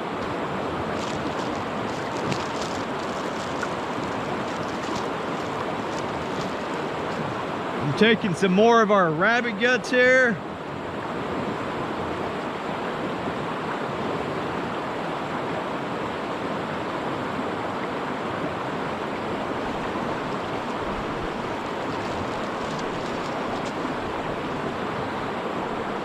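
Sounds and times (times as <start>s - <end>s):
water rushing at shoreline: 0.0s - 26.0s.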